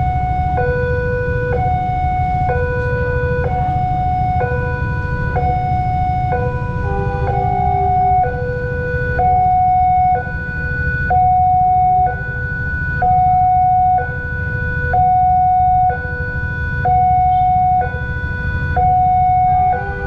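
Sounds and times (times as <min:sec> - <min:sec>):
steady low rumble: 0:00.0 - 0:20.0
two-tone crossing warning siren: 0:00.0 - 0:20.0.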